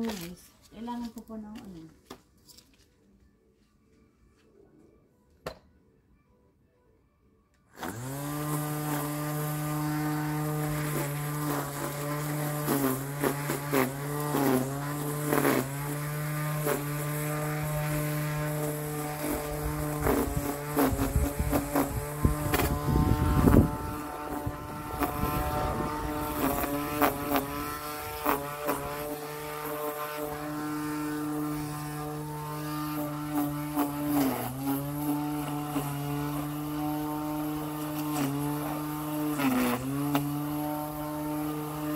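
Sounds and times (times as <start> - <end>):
string trimmer whining: 7.7 - 41.9
trimmer line striking grass: 7.8 - 41.9.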